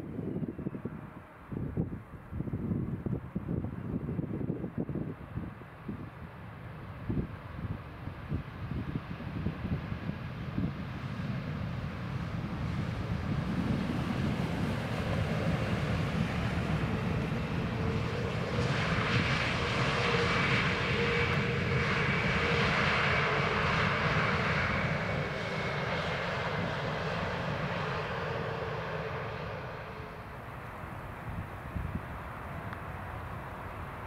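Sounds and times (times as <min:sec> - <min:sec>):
jet airliner passing by: 0:00.0 - 0:34.0.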